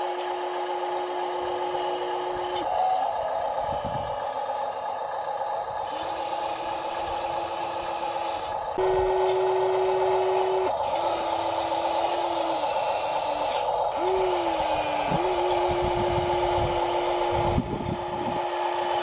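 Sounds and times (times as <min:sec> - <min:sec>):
small electric motors whining: 0:00.0 - 0:04.3, 0:05.8 - 0:19.0
steady whir: 0:00.0 - 0:19.0.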